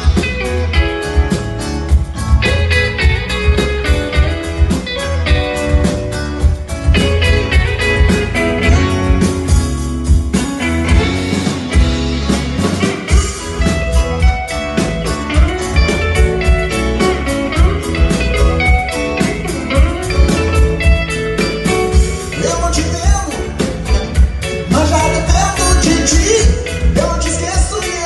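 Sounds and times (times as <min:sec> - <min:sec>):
bass guitar: 0:00.0 - 0:28.0
drums steady beat: 0:00.0 - 0:28.0
lead guitar with bent notes: 0:00.0 - 0:28.0
rock band playing: 0:00.0 - 0:28.0.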